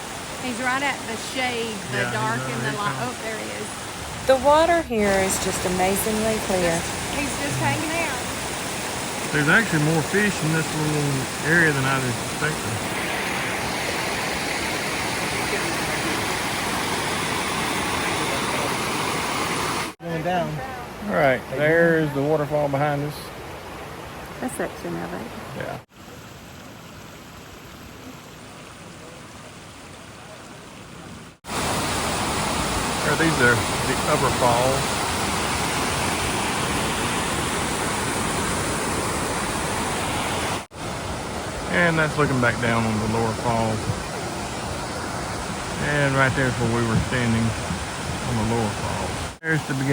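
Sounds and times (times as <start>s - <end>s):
waterfall rushing: 0.0s - 26.4s, 27.2s - 49.9s.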